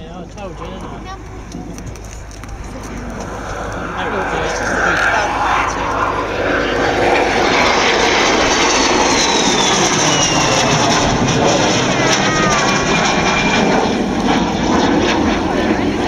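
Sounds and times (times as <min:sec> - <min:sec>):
high jet whine: 0:00.0 - 0:16.0
jet aircraft flying past: 0:00.0 - 0:16.0.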